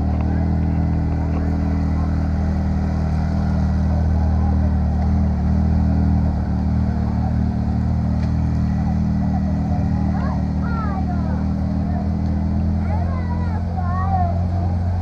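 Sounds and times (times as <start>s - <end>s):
large engine droning: 0.0s - 15.0s.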